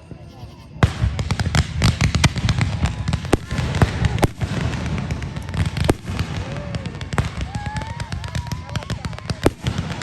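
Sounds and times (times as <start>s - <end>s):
fireworks bangs: 0.0s - 10.0s
fireworks crackling and popping: 0.0s - 10.0s.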